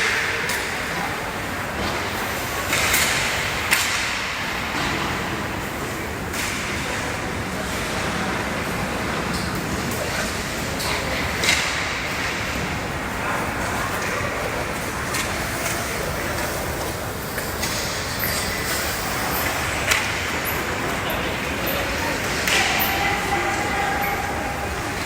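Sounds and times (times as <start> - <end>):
rink and crowd noise: 0.0 - 25.0.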